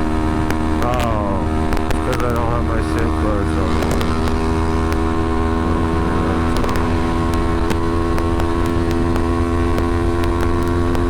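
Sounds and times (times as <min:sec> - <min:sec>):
motorcycle engine cruising: 0:00.0 - 0:11.0
sharp ticks: 0:00.4 - 0:11.0.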